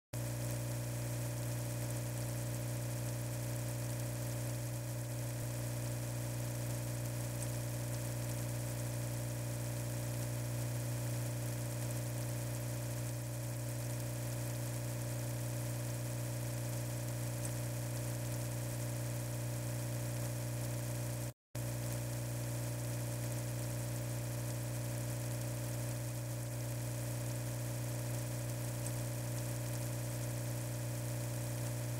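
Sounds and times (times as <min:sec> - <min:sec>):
low buzzing hum: 0:00.2 - 0:31.9.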